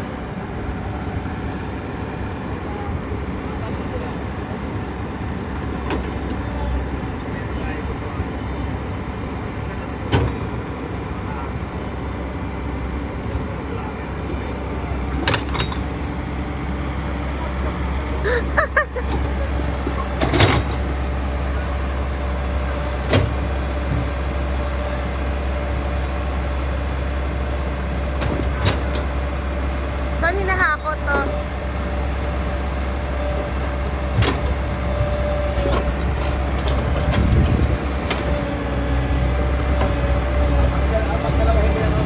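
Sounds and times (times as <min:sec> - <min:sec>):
diesel engine rumbling: 0:00.0 - 0:42.0.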